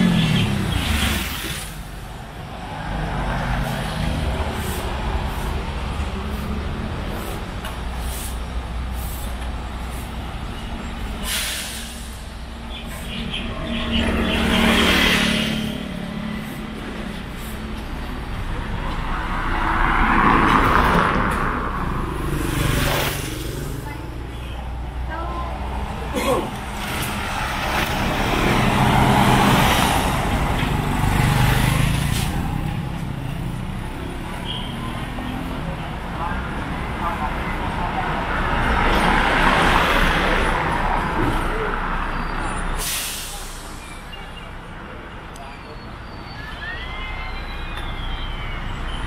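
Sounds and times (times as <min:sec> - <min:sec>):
vehicles passing: 0:00.0 - 0:49.0.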